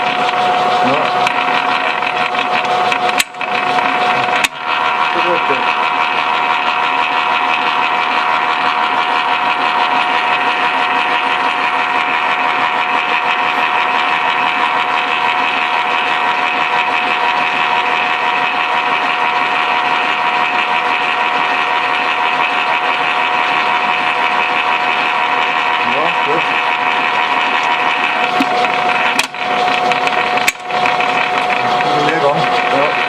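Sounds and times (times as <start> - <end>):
gearbox whining: 0.0 - 33.0
gears rattling: 0.0 - 33.0.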